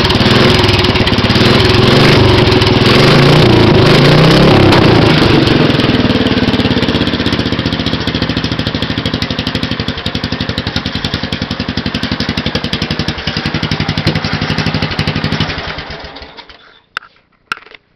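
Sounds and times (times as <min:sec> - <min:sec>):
lawn mower engine racing: 0:00.0 - 0:16.7.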